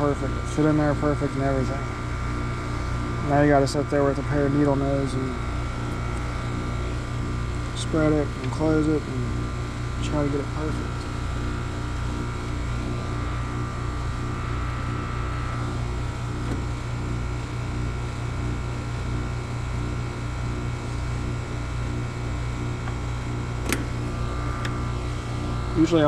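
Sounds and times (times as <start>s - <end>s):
electric motor hum: 0.0s - 26.0s.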